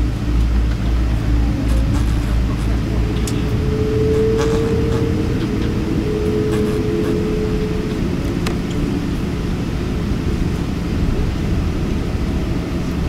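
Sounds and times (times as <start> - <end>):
airplane engines rumbling: 0.0 - 13.0
steady hum: 0.0 - 13.0.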